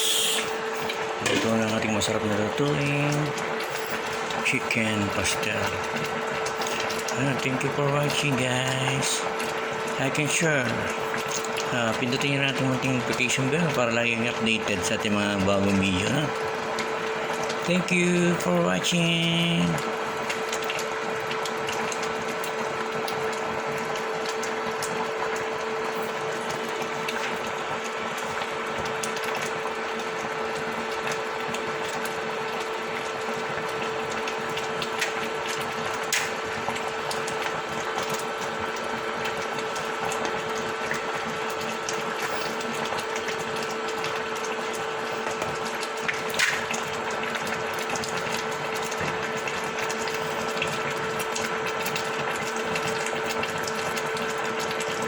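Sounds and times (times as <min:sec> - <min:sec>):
mechanical whirring hum: 0:00.0 - 0:55.0.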